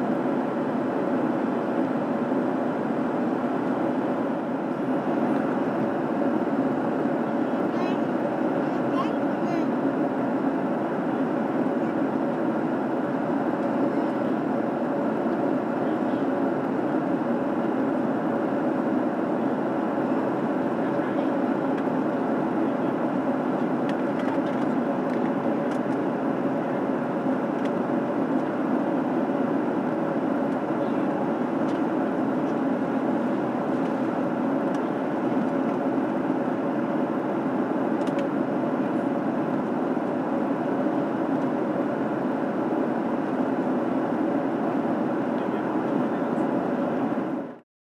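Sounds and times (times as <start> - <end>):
airplane cabin airflow rush: 0.0 - 47.6
jet engine drone: 0.0 - 47.6.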